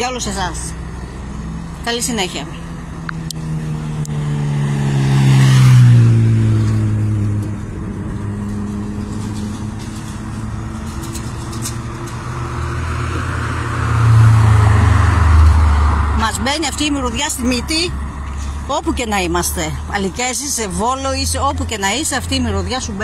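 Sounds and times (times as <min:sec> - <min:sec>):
engine running steadily: 0:00.0 - 0:23.0
vehicle approaching: 0:00.0 - 0:23.0
vehicle passing close by: 0:00.0 - 0:23.0.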